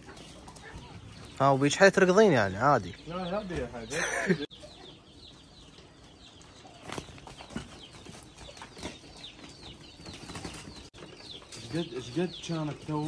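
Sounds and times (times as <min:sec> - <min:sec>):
chickens clucking and chirping: 0:00.0 - 0:13.0.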